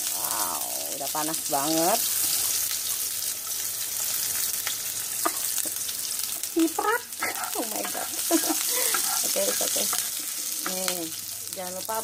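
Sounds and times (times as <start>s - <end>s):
shallots and garlic sizzling in oil: 0.0s - 12.0s.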